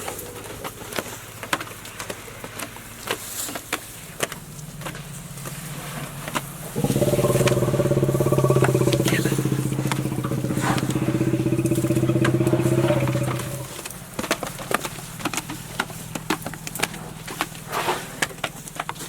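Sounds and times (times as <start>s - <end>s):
jeep engine running: 0.0s - 19.0s.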